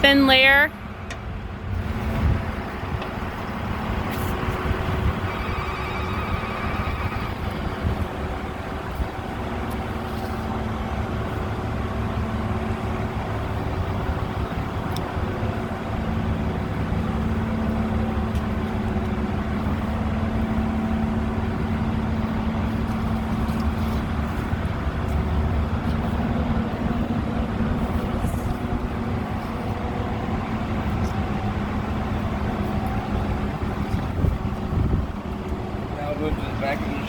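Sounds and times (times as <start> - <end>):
engine drone: 0.0 - 37.0.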